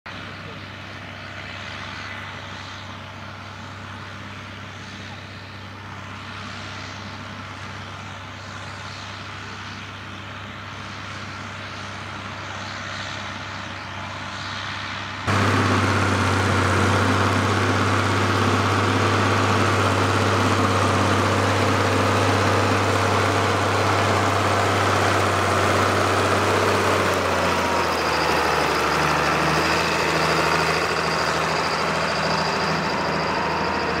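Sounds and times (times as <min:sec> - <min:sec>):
tractor diesel engine under load: 0:00.1 - 0:34.0.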